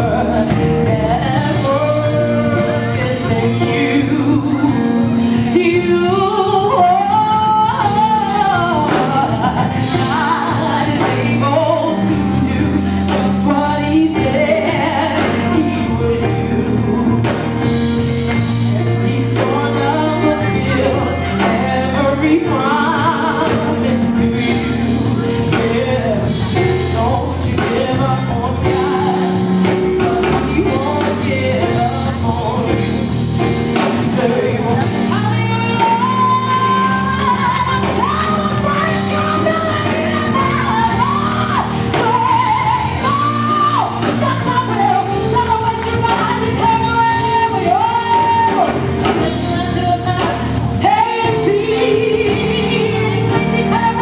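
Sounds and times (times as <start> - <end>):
backing band: 0.0 - 54.0
drums: 0.0 - 54.0
held bass notes: 0.0 - 54.0
woman singing into a microphone: 0.0 - 54.0.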